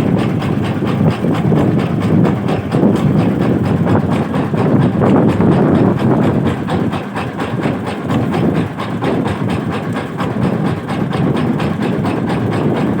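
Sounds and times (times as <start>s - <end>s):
boat engine knocking: 0.0s - 13.0s.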